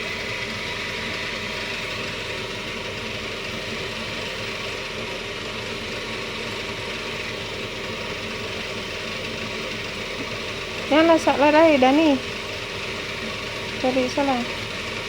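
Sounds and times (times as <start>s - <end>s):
cotton candy machine motor: 0.0s - 15.0s.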